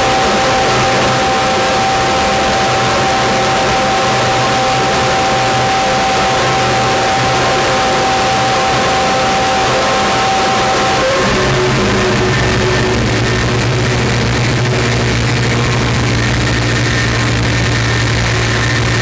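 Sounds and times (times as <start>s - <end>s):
dense noise wash with held tones: 0.0s - 19.0s
low steady drone: 0.0s - 19.0s.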